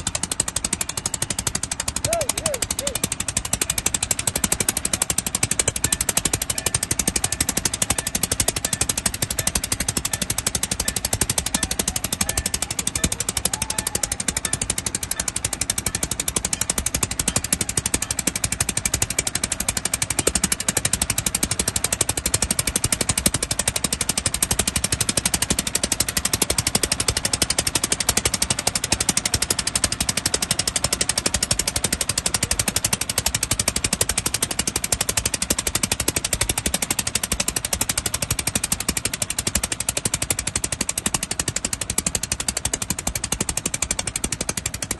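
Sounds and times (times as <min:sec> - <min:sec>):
boat engine knocking: 0:00.0 - 0:44.9.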